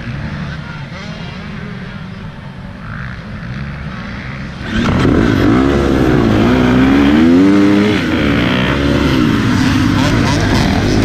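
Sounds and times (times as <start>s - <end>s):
dirt bike engine revving: 0.0s - 11.0s
other dirt bikes accelerating: 0.0s - 11.0s.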